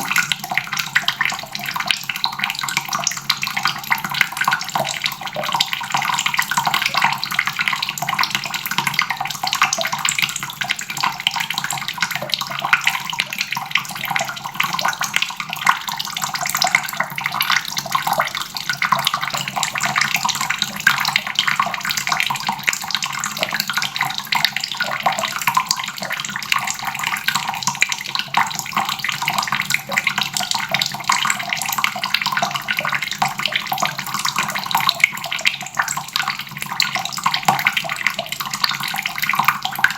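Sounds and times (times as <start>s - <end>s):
water faucet running into basin: 0.0s - 39.9s.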